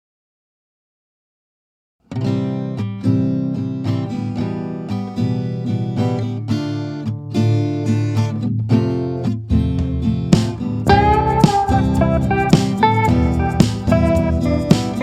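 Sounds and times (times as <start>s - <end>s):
strummed acoustic guitar: 2.0s - 15.0s.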